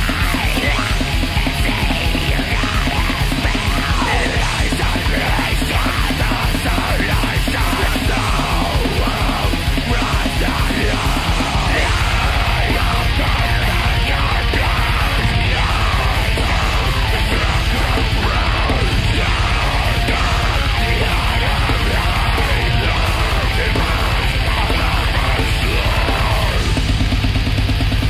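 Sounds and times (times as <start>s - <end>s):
harsh screamed vocals: 0.0s - 27.2s
distorted guitars: 0.0s - 28.0s
fast drums: 0.0s - 28.0s.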